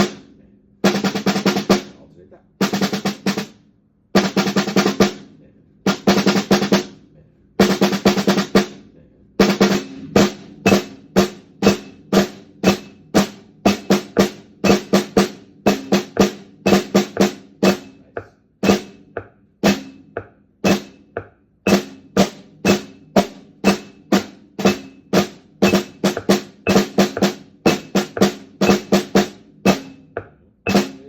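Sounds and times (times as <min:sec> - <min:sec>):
drum rolls and strokes: 0:00.0 - 0:03.5, 0:04.2 - 0:05.2, 0:05.9 - 0:07.0, 0:07.6 - 0:08.8, 0:09.4 - 0:31.0.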